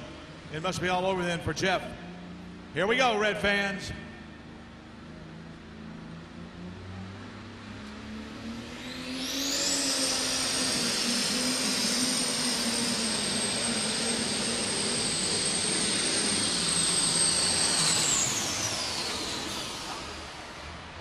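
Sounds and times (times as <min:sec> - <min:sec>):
tractor engine drone: 0:00.0 - 0:21.0
turbocharger whine: 0:00.0 - 0:21.0.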